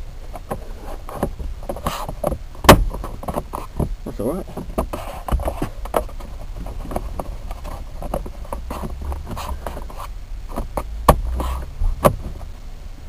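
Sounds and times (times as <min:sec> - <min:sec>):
hard plastic clicking and scraping: 0:00.3 - 0:12.5.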